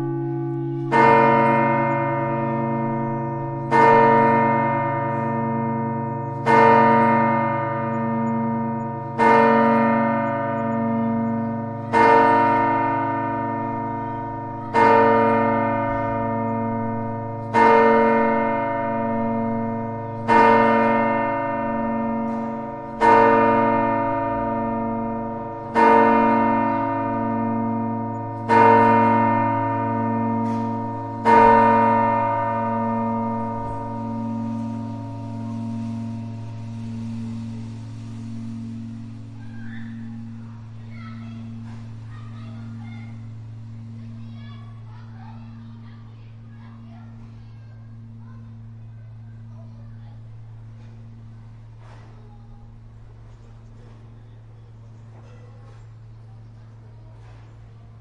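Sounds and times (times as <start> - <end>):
church bell striking: 0.0 - 58.0.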